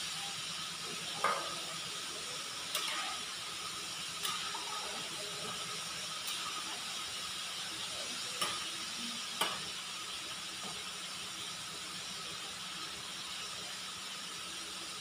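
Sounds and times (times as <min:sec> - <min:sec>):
stove and extractor hood hum: 0:00.0 - 0:15.0.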